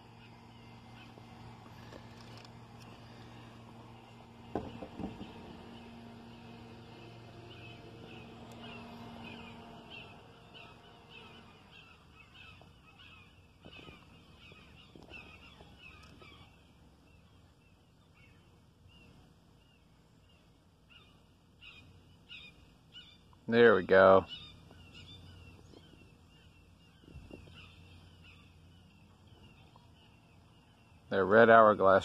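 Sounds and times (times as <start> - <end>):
bird chirping: 0.0 - 32.0
faint low hum: 0.0 - 32.0.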